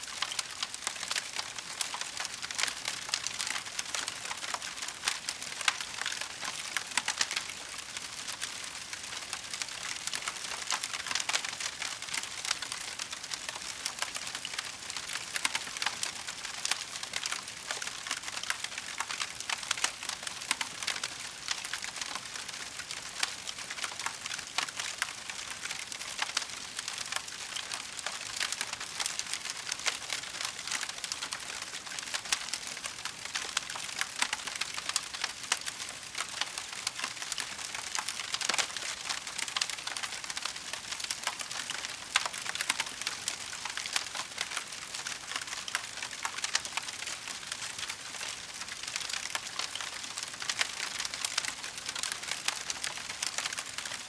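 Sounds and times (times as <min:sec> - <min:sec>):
wood crackling in a fireplace: 0:00.0 - 0:54.0.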